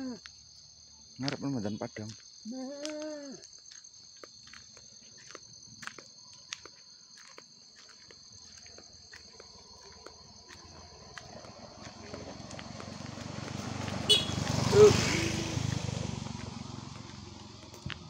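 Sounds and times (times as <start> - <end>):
crickets chirring: 0.0 - 18.0
footsteps on road: 1.2 - 18.0.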